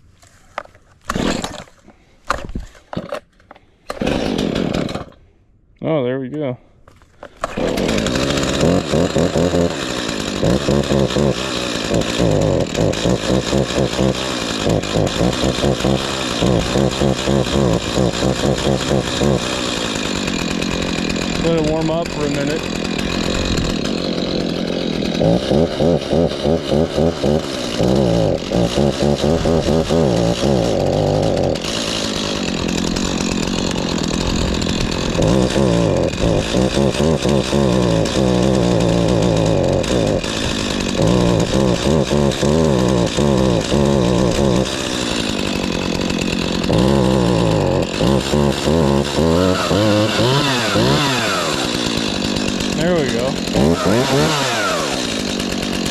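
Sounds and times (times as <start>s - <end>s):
chainsaw running: 0.6s - 5.4s, 6.9s - 55.9s
chainsaw throttle blipping: 1.0s - 1.8s, 3.9s - 5.2s, 7.2s - 55.9s.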